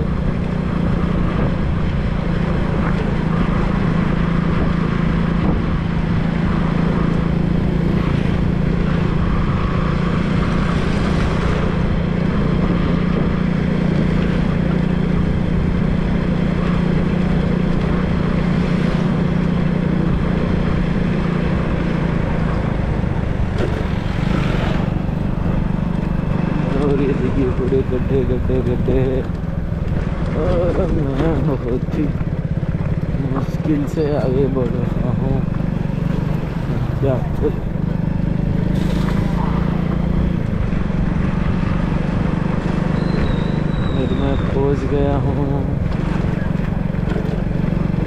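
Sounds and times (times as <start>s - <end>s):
wind buffeting microphone: 0.0s - 44.4s
vehicle engine running: 0.0s - 48.0s.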